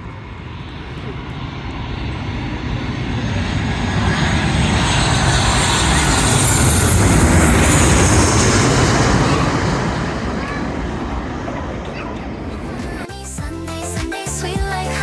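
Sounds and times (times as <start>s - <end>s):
airliner passing overhead: 0.0s - 15.0s.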